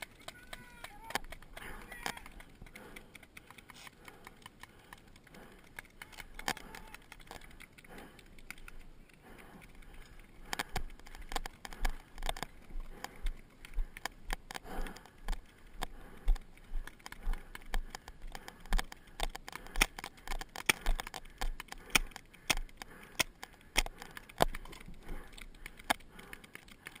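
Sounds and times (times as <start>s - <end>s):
gear and gun rattling: 0.0s - 27.0s.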